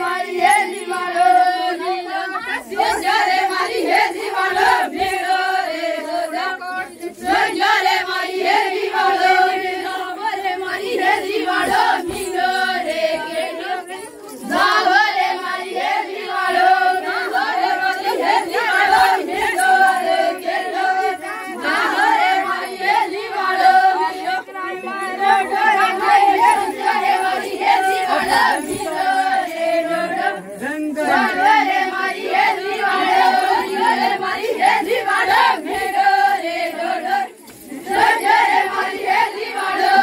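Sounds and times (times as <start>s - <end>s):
group singing in chorus: 0.0s - 40.0s.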